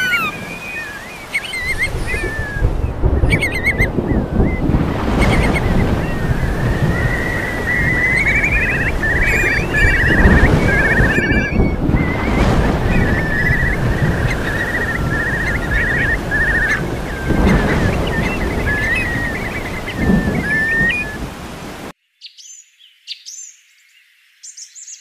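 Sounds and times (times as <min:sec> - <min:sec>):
high chirping trills: 0:00.0 - 0:21.3
rain and wind rushing: 0:00.0 - 0:21.9
low rumble: 0:01.6 - 0:21.7.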